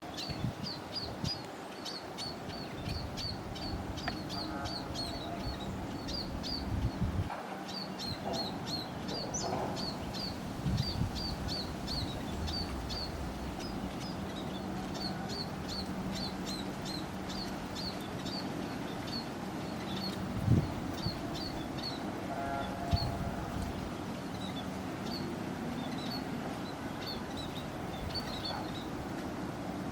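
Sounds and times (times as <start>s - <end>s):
small birds chirping: 0.0s - 29.1s.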